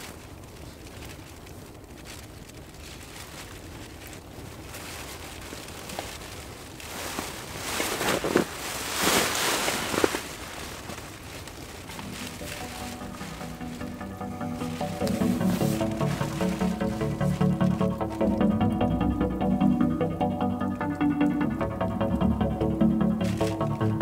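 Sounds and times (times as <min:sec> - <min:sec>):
campfire burning: 0:00.0 - 0:24.0
sleeping bag rustling: 0:00.0 - 0:24.0.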